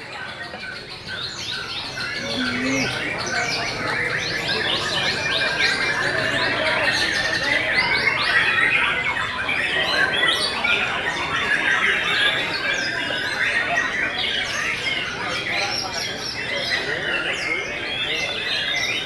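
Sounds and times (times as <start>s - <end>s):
birds singing in chorus: 0.0s - 19.0s.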